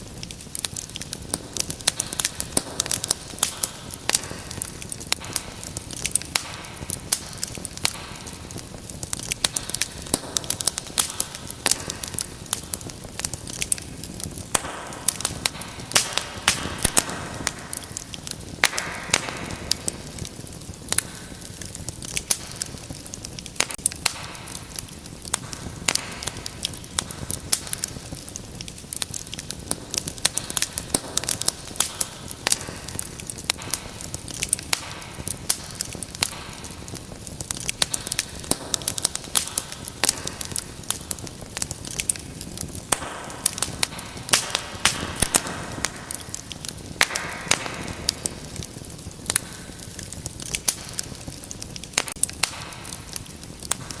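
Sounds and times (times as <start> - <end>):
fire crackling and popping: 0.0 - 54.0
fire hissing: 0.0 - 54.0.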